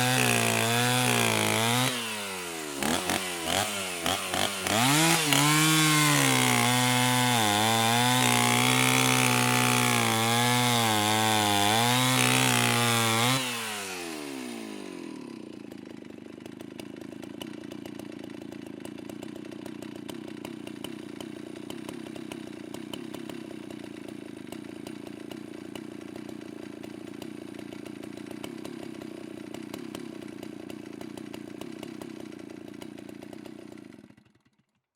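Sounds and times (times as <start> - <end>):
chainsaw engine revving and idling: 0.0 - 34.9.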